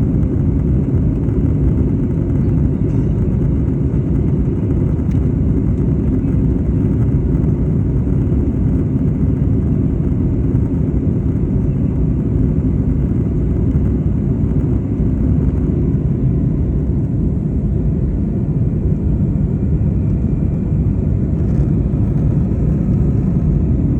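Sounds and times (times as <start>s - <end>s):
jet engines rumbling: 0.0s - 23.9s
rushing air in cabin: 0.0s - 23.9s.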